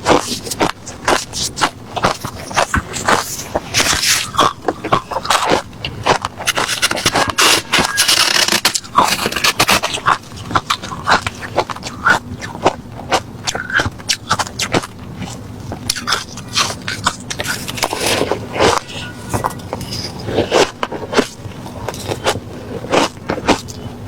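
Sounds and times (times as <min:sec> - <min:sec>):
crunching ice: 0:00.0 - 0:23.9.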